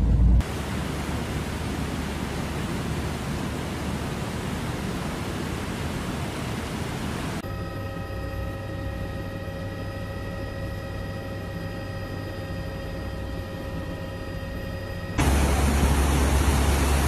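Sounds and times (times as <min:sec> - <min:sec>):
aircraft engine drone: 0:00.0 - 0:17.0.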